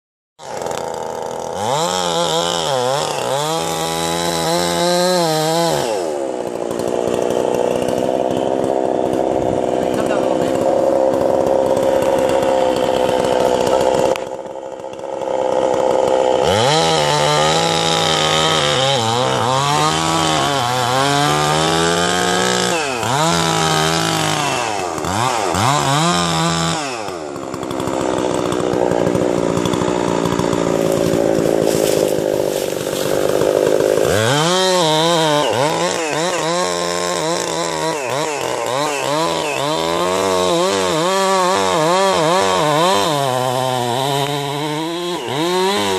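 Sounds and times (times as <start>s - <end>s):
small high-revving motor: 0.4s - 45.9s.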